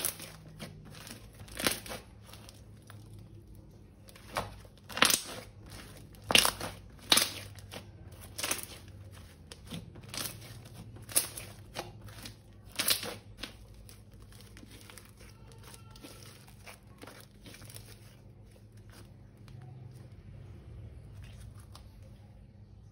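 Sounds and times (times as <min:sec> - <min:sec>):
slime crackling and popping: 0:00.0 - 0:19.9.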